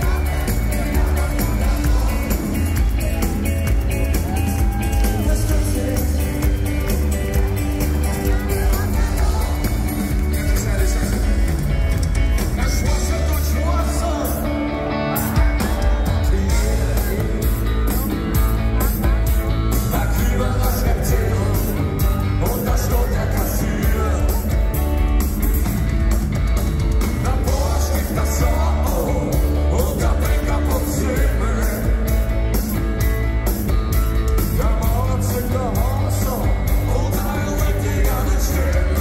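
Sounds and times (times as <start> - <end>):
person singing: 0.0 - 25.1, 27.0 - 32.7, 34.3 - 39.0
rock band playing live: 0.0 - 39.0.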